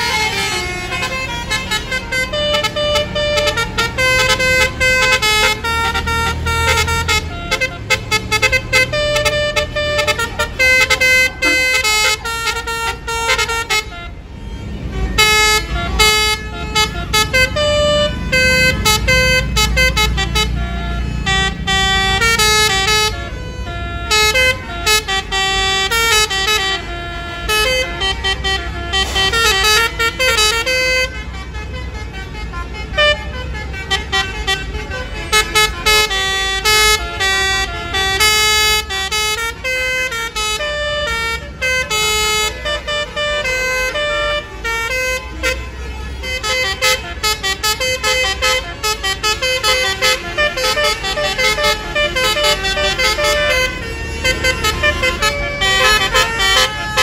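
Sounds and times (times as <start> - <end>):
bus engine running: 0.0 - 57.0
multi-trumpet horns playing tunes: 0.0 - 57.0.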